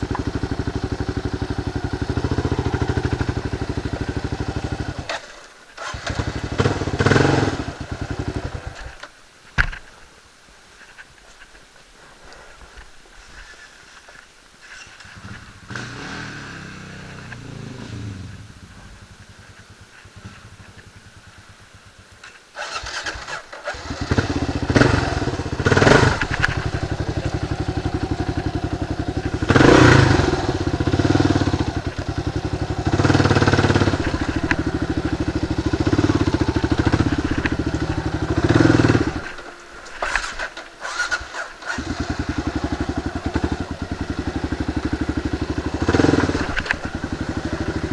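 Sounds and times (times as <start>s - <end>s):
motorcycle engine revving: 0.0s - 8.9s, 15.1s - 21.2s, 22.6s - 47.9s.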